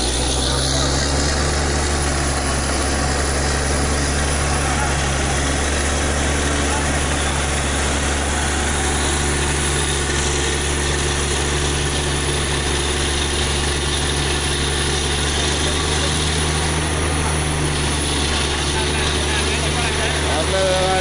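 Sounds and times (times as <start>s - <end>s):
drilling rig engine drone: 0.0s - 21.0s.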